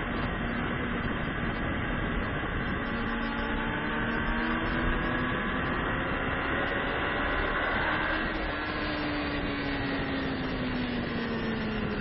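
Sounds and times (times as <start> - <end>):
motorcycle engine accelerating: 0.0 - 12.0
wind noise on camera: 0.0 - 12.0.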